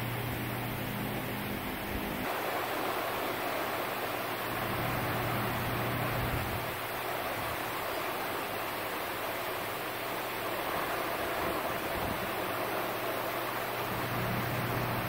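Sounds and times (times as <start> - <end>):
mist fans rushing air: 0.0 - 15.0.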